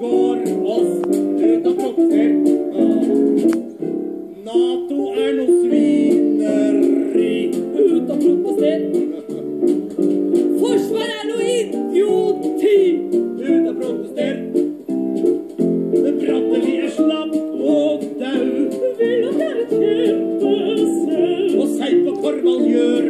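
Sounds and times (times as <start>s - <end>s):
person singing with vibrato: 0.0s - 9.9s, 10.6s - 14.7s, 16.0s - 23.0s
plucked string accompaniment: 0.0s - 23.0s.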